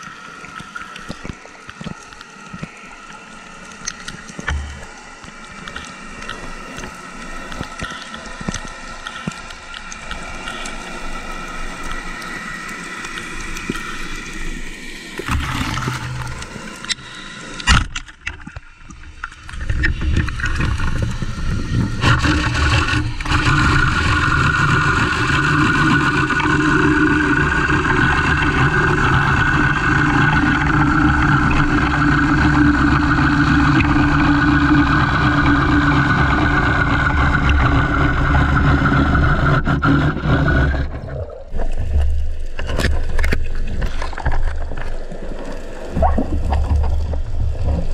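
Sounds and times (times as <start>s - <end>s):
underwater engine drone: 0.0s - 47.9s.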